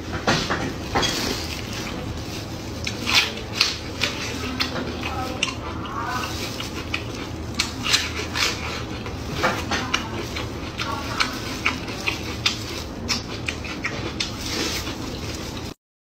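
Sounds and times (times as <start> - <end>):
low steady hum: 0.0 - 15.8
biting into food: 1.0 - 15.8
wet chewing and lip smacks: 2.7 - 15.7.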